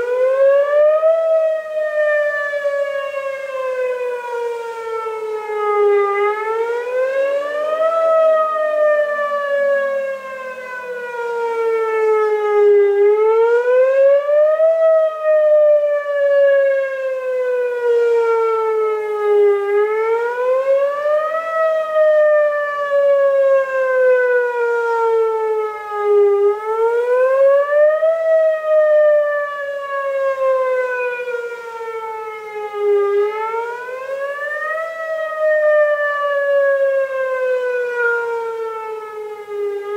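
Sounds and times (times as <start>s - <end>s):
faint lower siren: 0.0s - 39.9s
wailing warning siren: 0.0s - 39.9s.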